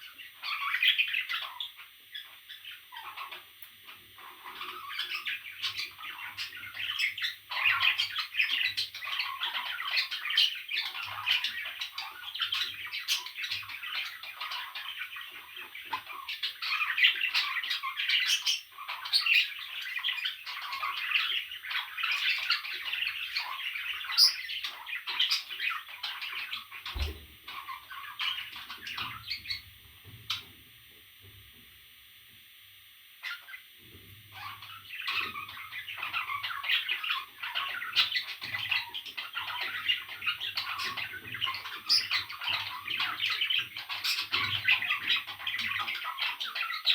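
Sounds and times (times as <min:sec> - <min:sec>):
parrot chicks squawking: 0:00.0 - 0:29.7, 0:33.2 - 0:33.6, 0:34.3 - 0:46.9.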